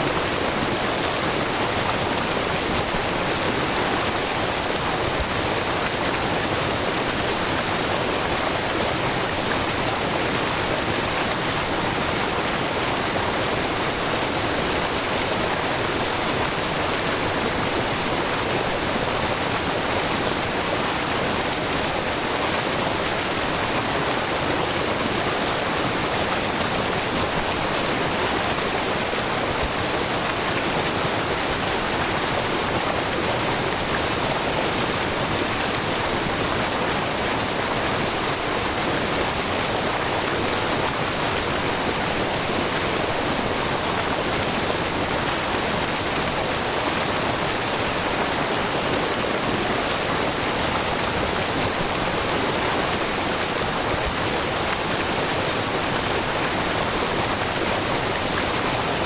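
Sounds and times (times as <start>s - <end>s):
waterfall rushing over rock: 0.0s - 59.0s.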